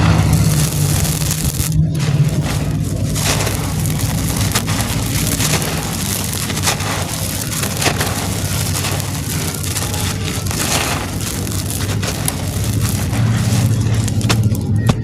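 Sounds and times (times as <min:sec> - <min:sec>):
cement clumps crushing: 0:00.0 - 0:15.0.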